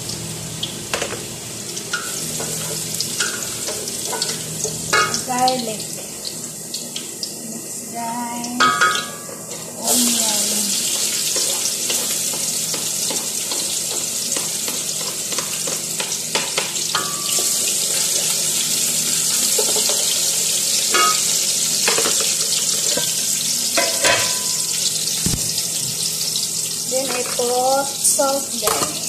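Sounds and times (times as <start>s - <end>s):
onion and garlic sizzling: 0.0s - 29.0s.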